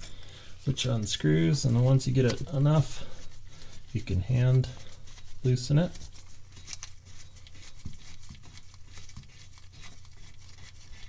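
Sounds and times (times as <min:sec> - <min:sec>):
hand unscrewing threaded collar: 0:01.6 - 0:11.0.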